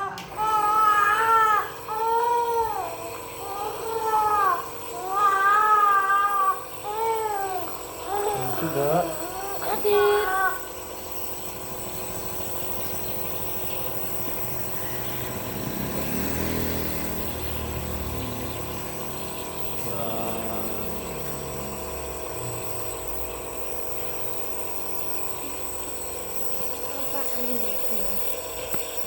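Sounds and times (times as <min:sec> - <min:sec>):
nebulizer compressor humming: 0:00.0 - 0:29.0.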